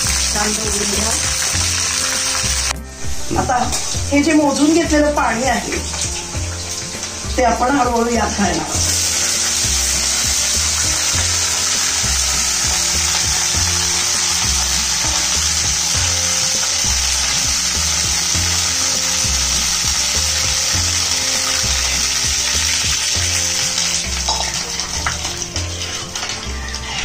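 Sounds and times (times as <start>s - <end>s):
oil sizzling and spitting in a wok: 0.0s - 27.0s
water pouring: 0.0s - 27.0s.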